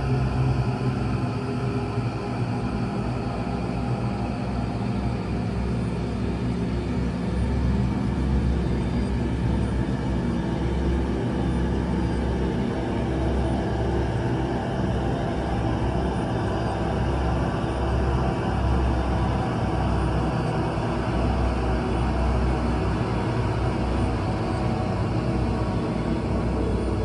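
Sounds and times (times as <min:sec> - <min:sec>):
horror ambient drone: 0:00.0 - 0:27.0.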